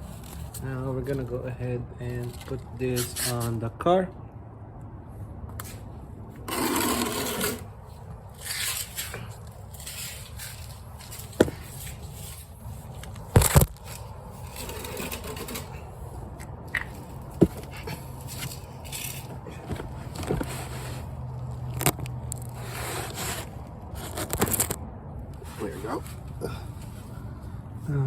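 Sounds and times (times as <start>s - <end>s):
hands scraping and rustling parts: 0.0s - 1.4s, 2.0s - 3.6s, 5.6s - 27.5s.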